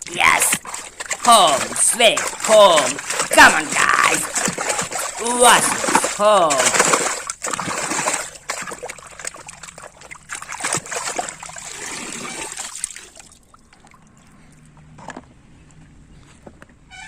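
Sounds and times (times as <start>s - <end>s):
water splashing and trickling: 0.0s - 14.8s.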